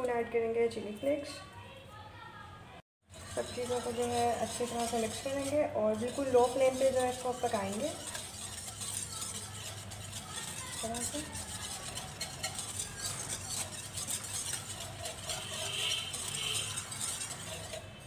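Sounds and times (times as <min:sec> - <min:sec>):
whisk scraping a pan: 0:03.1 - 0:18.0.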